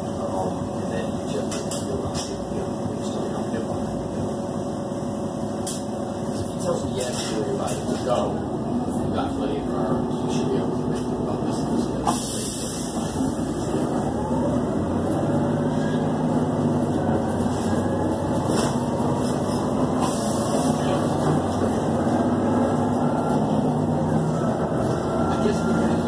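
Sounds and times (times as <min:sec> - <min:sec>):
bus engine hum: 0:00.0 - 0:26.0
road noise: 0:00.0 - 0:26.0.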